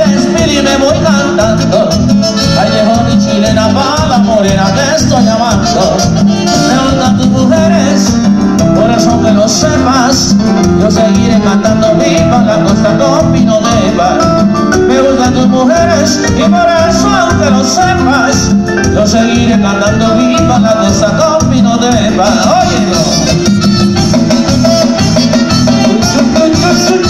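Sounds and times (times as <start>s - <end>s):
latin dance music from keyboard band: 0.0s - 27.0s.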